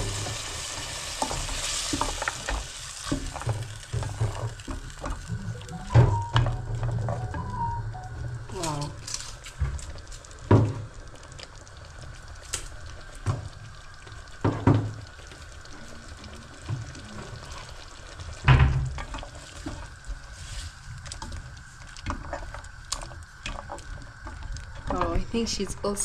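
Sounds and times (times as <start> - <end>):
tomato sizzling in a frying pan: 0.0 - 7.8, 8.4 - 26.0.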